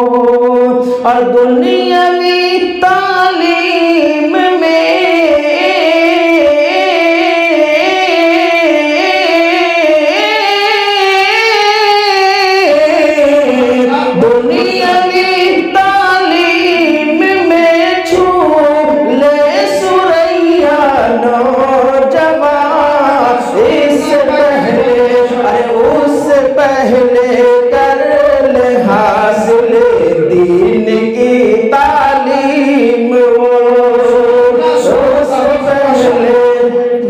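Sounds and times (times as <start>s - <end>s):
man chanting into a microphone: 0.0s - 37.0s.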